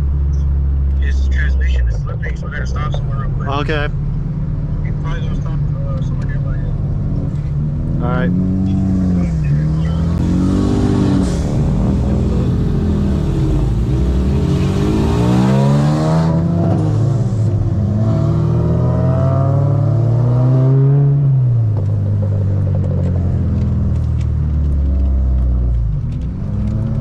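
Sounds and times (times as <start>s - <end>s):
car engine pulling through gears: 0.0s - 27.0s.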